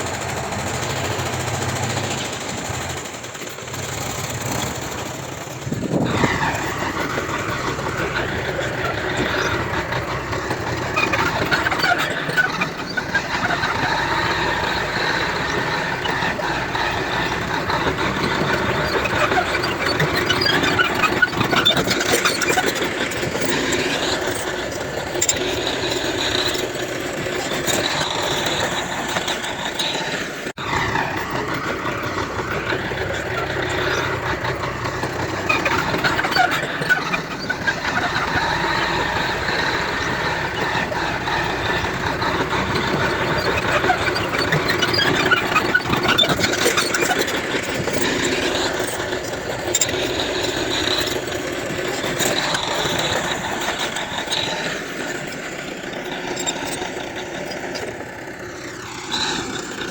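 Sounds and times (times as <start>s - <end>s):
heavy diesel machinery running: 0.0s - 59.9s
high metallic track squealing: 3.9s - 59.8s.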